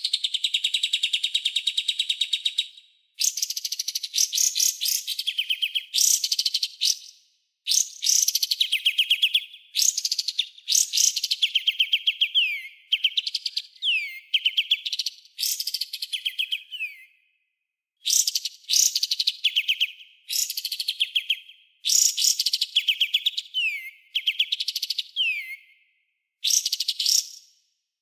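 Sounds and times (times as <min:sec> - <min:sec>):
songbird rasping song and trills: 0:00.0 - 0:17.4, 0:18.0 - 0:27.6.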